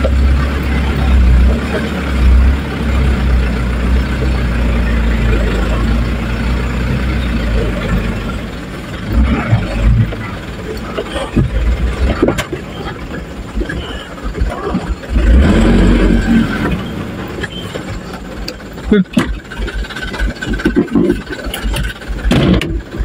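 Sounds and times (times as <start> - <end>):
truck engine running: 0.0 - 23.0
truck knocks and rattles: 0.0 - 23.0.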